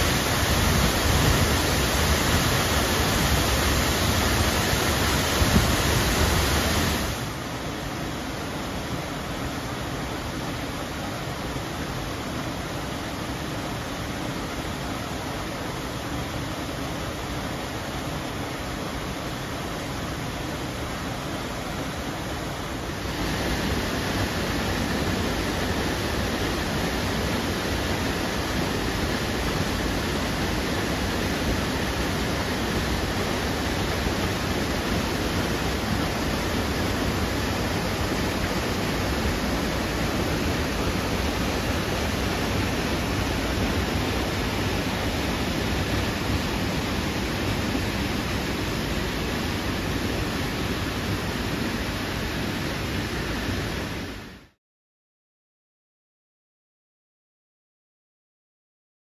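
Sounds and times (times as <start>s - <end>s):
water rushing over rocks: 0.0s - 54.4s.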